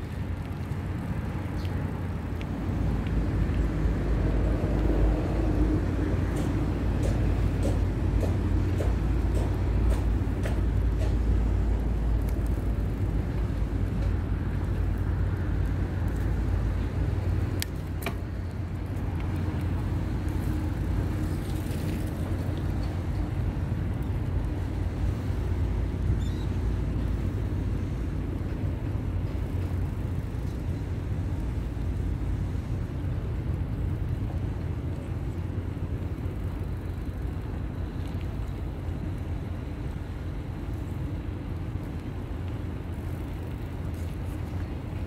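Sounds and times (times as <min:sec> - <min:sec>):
bicycle tyres rolling on pavement: 0:00.0 - 0:45.0.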